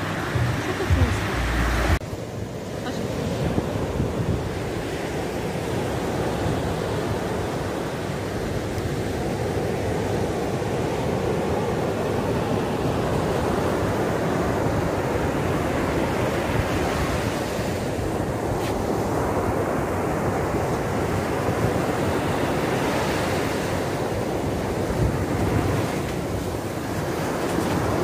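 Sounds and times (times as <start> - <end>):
wind on microphone: 0.0 - 2.1, 3.2 - 28.0
surf washing up a beach: 0.0 - 28.0.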